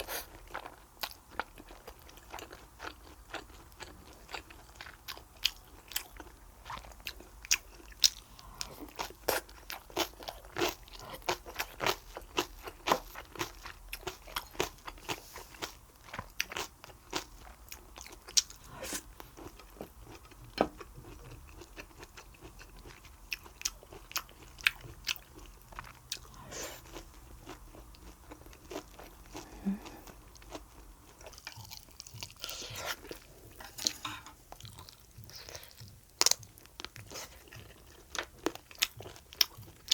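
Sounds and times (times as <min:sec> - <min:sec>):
person chewing and crunching: 0:00.0 - 0:39.9.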